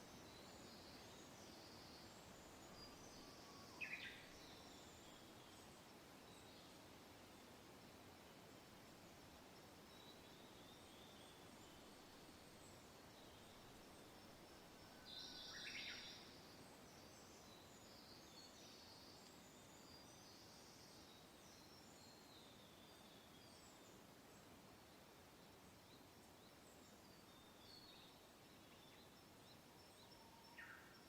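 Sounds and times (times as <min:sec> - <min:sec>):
soft wind: 0:00.0 - 0:31.0.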